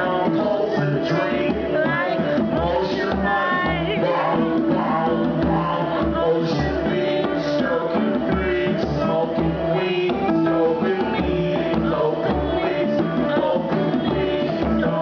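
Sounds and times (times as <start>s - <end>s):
band playing world-beat groove: 0.0s - 15.0s
steady drum beat: 0.0s - 15.0s.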